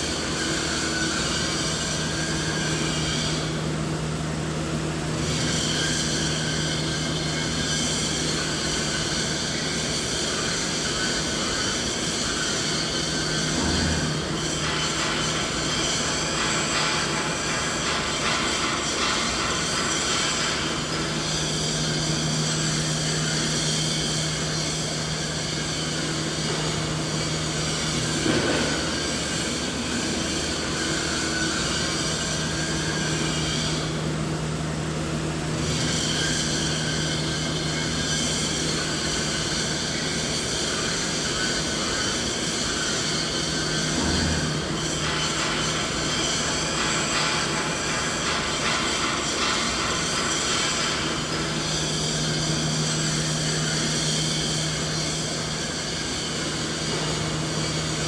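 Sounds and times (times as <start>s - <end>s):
machine hum with dense hiss: 0.0s - 58.0s.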